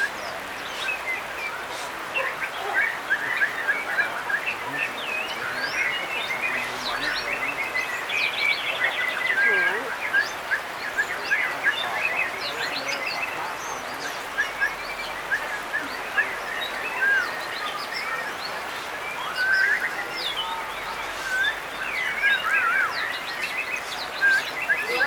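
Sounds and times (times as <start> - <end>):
steady hiss: 0.0 - 24.7
birds singing: 0.0 - 25.0.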